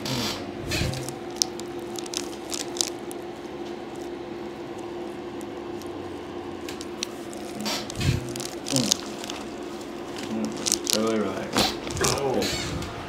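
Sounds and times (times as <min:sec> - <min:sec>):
room hum: 0:00.0 - 0:13.0
hands rustling against skin: 0:00.8 - 0:12.4.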